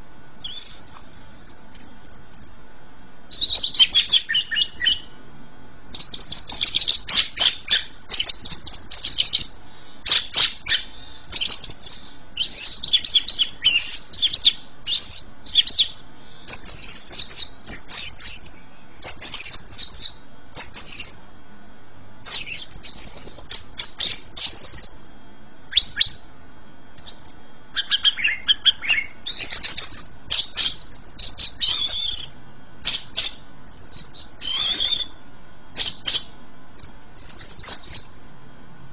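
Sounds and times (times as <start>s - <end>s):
bird chirping rapidly: 0.4s - 2.6s, 3.3s - 5.2s, 5.9s - 21.3s, 22.2s - 25.1s, 25.7s - 26.3s, 27.0s - 35.2s, 35.8s - 38.2s.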